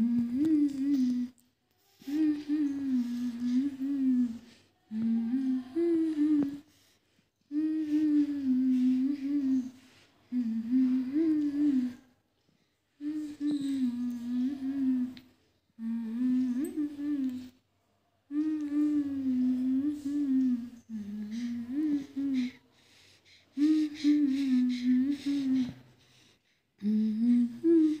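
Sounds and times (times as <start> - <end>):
woman humming a lullaby: 0.0 - 6.7, 7.5 - 12.1, 13.0 - 17.6, 18.3 - 22.6, 23.5 - 25.9, 26.8 - 28.0.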